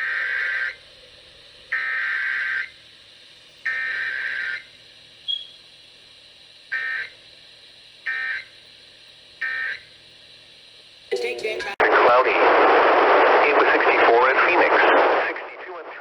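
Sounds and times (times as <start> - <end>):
buzzy data tone bursts: 0.0 - 5.8, 6.5 - 7.2, 8.0 - 8.7, 9.3 - 16.0.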